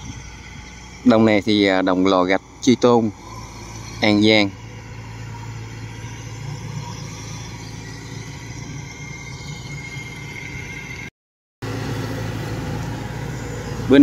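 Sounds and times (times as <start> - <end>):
combine harvester engine running: 0.0 - 14.0.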